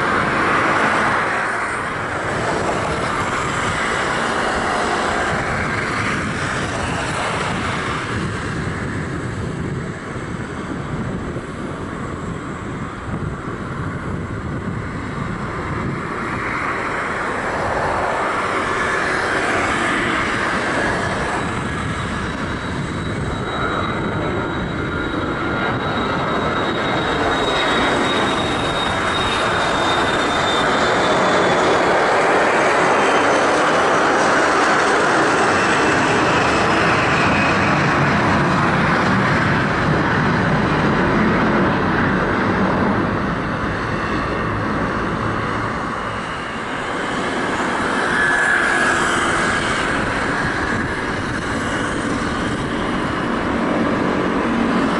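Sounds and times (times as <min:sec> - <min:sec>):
high engine whine falling: 0:00.0 - 0:54.9
jet airliner taxiing: 0:00.0 - 0:54.9
jet engines roaring: 0:00.0 - 0:54.9.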